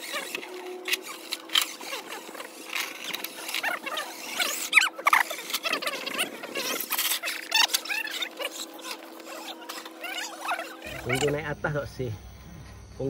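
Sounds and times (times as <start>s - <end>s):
toy truck clicking against rocks: 0.0s - 10.7s
small electric motor whining: 0.0s - 13.0s.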